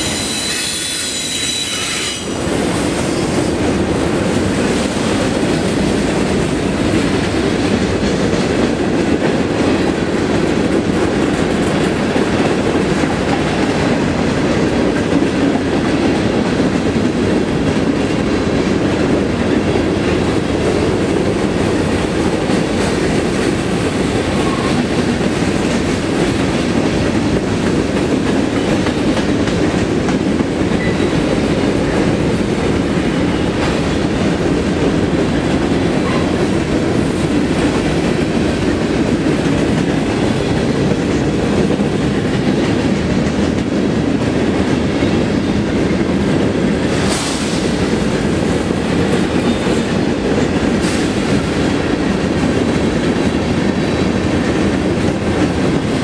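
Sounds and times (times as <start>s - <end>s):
steel wheels rolling on rail: 0.0s - 56.0s.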